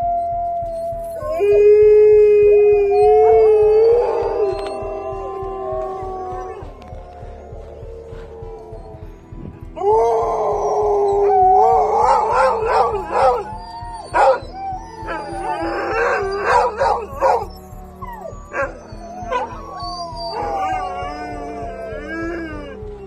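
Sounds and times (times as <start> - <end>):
dogs yipping and barking: 0.0 - 9.5, 10.1 - 23.0
dogs howling in chorus: 0.0 - 23.0.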